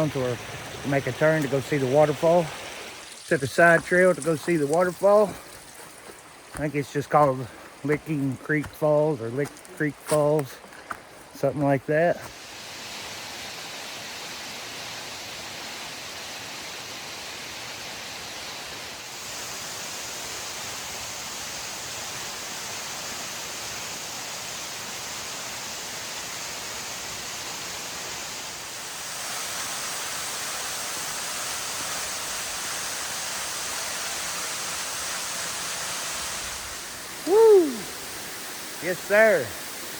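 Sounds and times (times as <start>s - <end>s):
rushing creek water: 0.0s - 39.9s.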